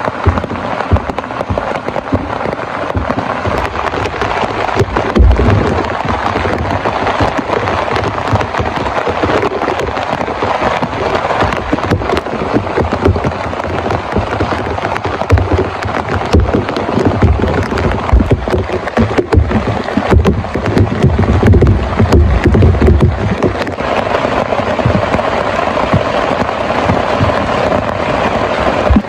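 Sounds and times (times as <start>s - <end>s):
heavy rain beating on a tent: 0.0s - 29.0s
low thumps: 0.1s - 23.9s.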